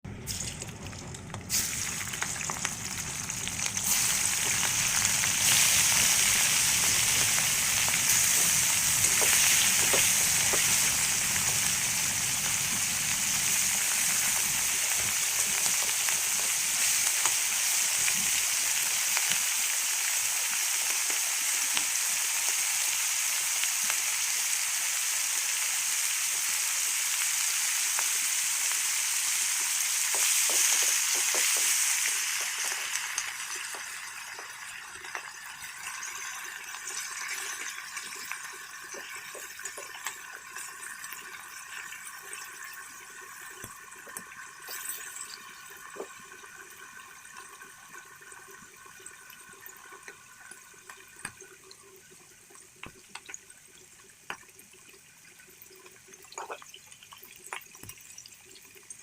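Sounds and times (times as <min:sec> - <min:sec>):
prawns sizzling in oil: 0:00.2 - 0:59.0.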